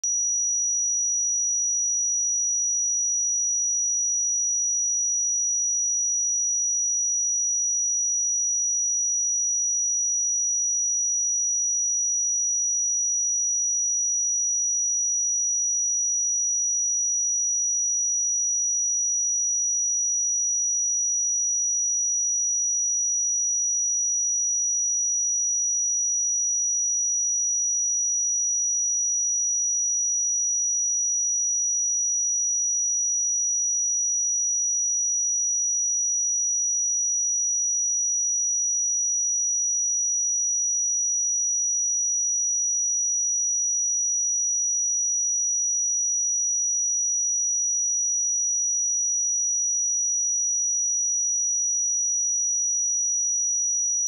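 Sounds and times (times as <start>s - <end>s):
high-pitched sine test tone: 0.0s - 54.0s.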